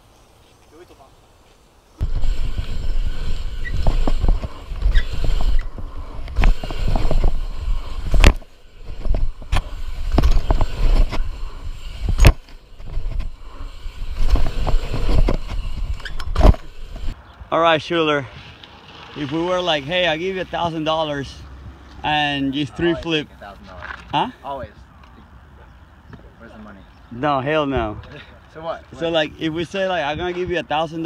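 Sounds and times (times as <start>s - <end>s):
bike rolling noise: 0.0s - 25.1s.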